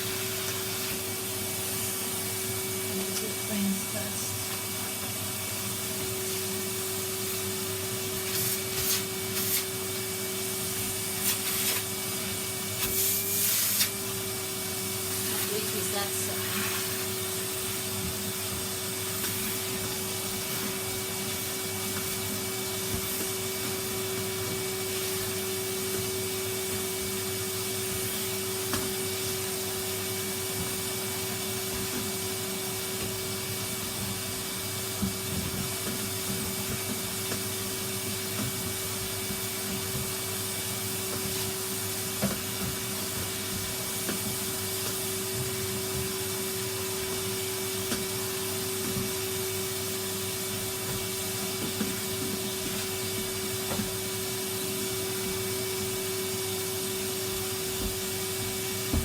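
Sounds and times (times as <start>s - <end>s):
vacuum cleaner humming: 0.0s - 59.0s.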